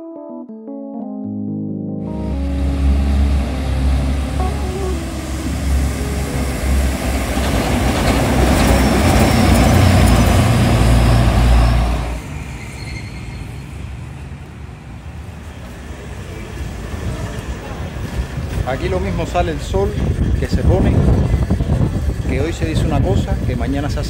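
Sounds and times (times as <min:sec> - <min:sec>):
heavy vehicles passing: 0:02.1 - 0:22.3
faint street noise: 0:02.4 - 0:24.0.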